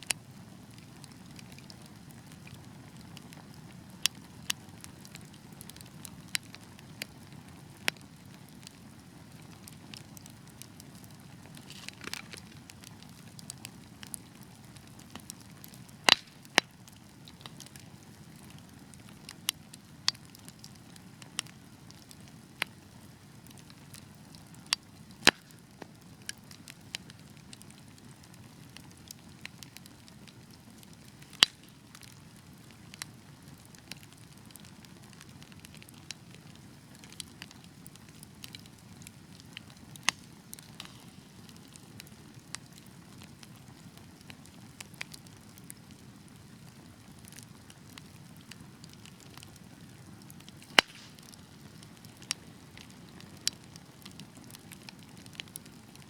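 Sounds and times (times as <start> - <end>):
logs crackling and popping: 0.0 - 56.0
wood fire rumbling: 0.1 - 56.0.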